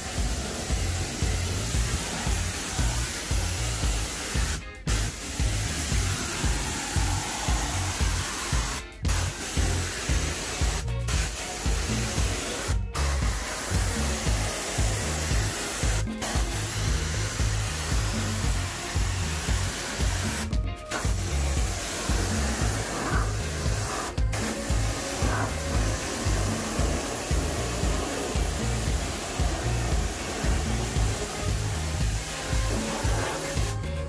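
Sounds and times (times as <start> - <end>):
pressure washer spraying concrete: 0.0 - 34.0.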